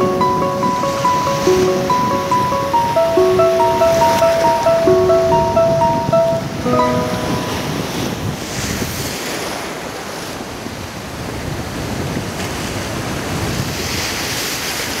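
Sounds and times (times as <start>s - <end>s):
wind buffeting microphone: 0.0s - 14.9s
ocean surf washing onto beach: 0.0s - 15.0s.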